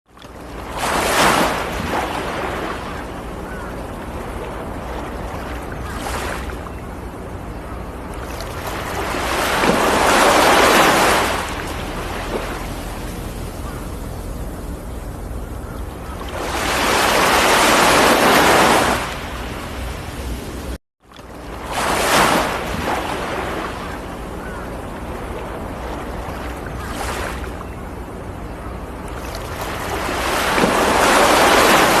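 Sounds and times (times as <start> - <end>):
ocean waves breaking on shore: 0.1 - 32.0
steady low rumble: 0.2 - 32.0.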